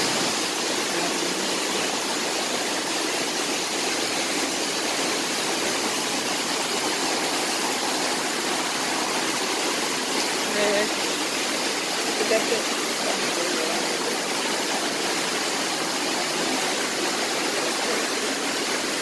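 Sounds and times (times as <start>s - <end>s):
heavy rain and wind: 0.0s - 19.0s.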